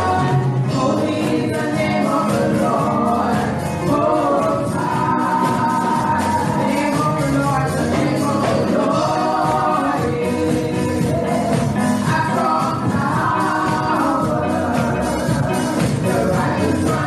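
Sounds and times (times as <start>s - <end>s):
instrumental accompaniment: 0.0s - 17.0s
women singing gospel song: 0.0s - 17.0s.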